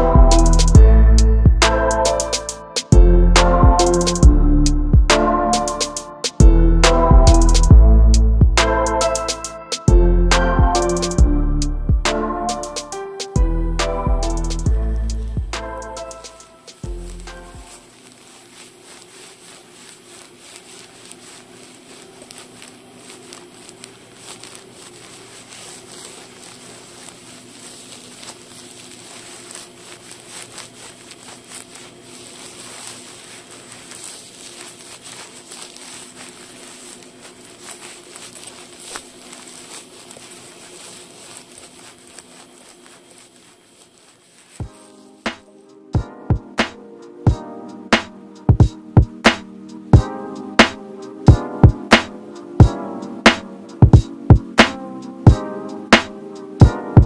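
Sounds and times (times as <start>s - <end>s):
nylon fabric crinkling: 1.8s - 2.9s, 5.2s - 6.3s, 10.7s - 57.0s.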